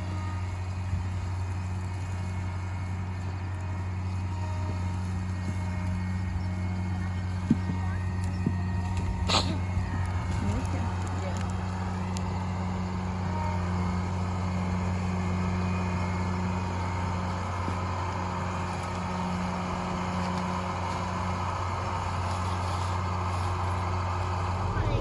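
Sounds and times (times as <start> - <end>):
farm vehicle engine humming: 0.0 - 25.0.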